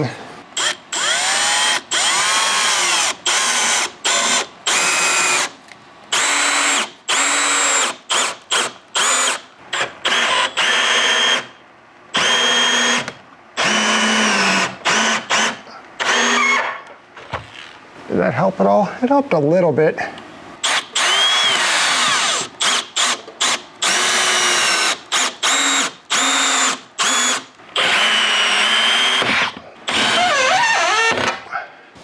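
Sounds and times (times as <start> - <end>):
power drill motor whine: 0.6 - 5.5, 6.1 - 11.5, 12.2 - 16.8, 20.6 - 31.4.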